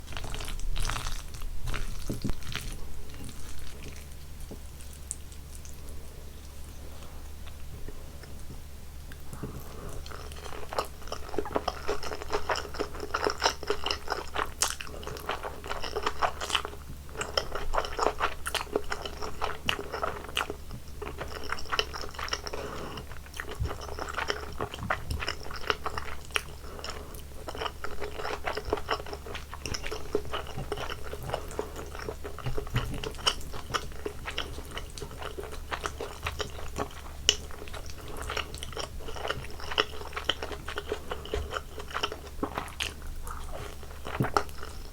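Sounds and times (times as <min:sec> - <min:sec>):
low steady hum: 0:00.0 - 0:44.9
person chewing: 0:00.0 - 0:44.9.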